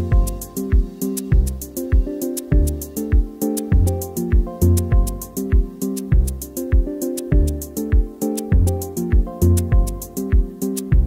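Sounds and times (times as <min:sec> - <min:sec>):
deep drum beat: 0:00.0 - 0:11.0
held chords: 0:00.0 - 0:11.0.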